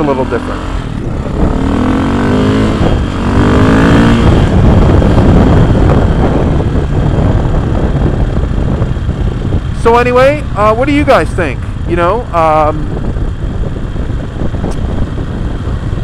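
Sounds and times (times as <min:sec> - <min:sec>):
dirt bike engine accelerating: 0:00.0 - 0:16.0
wind rushing: 0:00.6 - 0:16.0.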